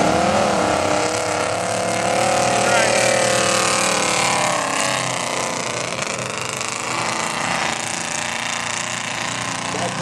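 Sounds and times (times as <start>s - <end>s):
truck engine revving hard: 0.0s - 10.0s.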